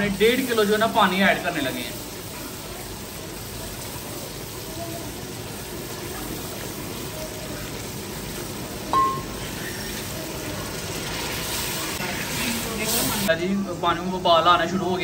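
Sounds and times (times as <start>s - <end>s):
pot of water heating hiss: 0.0s - 15.0s.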